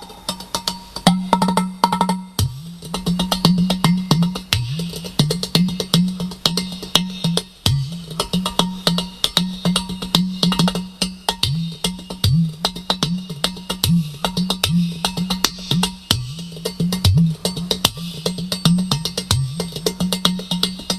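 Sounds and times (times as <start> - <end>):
low hollow drum tones: 0.0 - 20.9.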